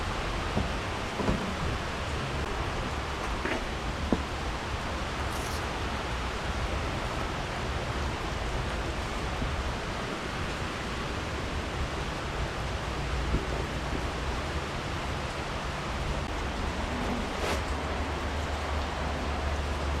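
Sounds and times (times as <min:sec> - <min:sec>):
rushing wind: 0:00.0 - 0:19.6
road noise: 0:00.0 - 0:20.0.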